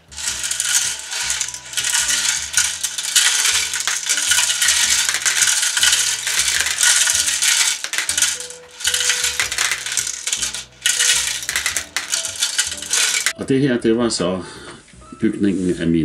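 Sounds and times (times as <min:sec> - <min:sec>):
plastic pieces rattling in drum: 0:00.0 - 0:13.4.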